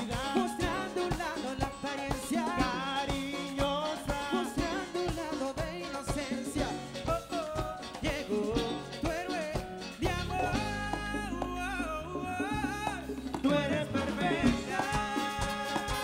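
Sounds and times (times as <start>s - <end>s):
conga and timbale strikes: 0.0s - 16.0s
drum kit: 0.0s - 16.0s.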